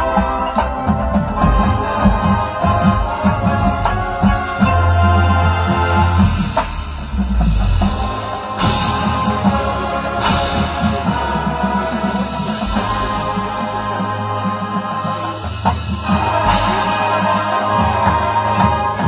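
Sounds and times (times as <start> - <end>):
drumline beat: 0.0 - 19.0
marching band brass chords: 0.0 - 19.0.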